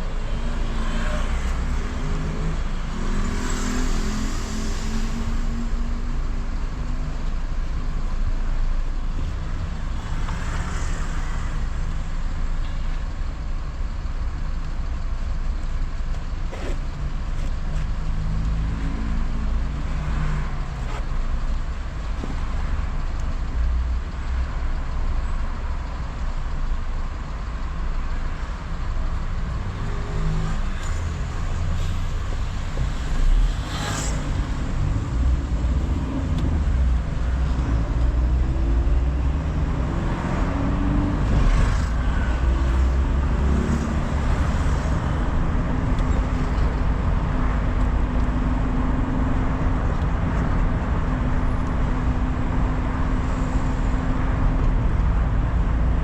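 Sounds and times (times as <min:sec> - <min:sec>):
car engine hum: 0:00.0 - 0:56.0
road rumble: 0:00.0 - 0:56.0.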